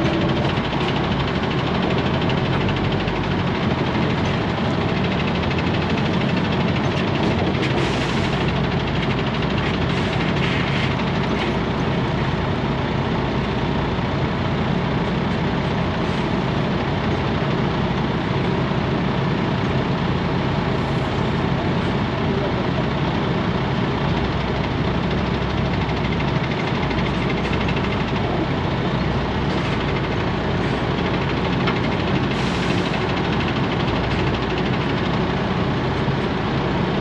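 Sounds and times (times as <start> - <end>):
diesel truck engine running: 0.0 - 37.0
road noise: 0.0 - 37.0.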